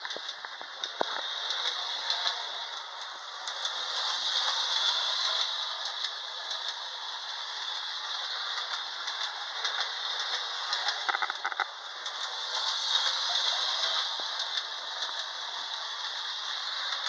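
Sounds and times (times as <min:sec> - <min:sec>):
toy train motor whirring: 0:00.0 - 0:17.0.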